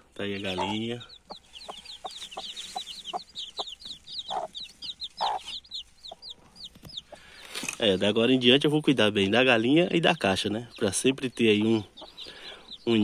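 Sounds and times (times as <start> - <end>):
chicks peeping: 0.0 - 13.0
hen clucking: 0.2 - 13.0.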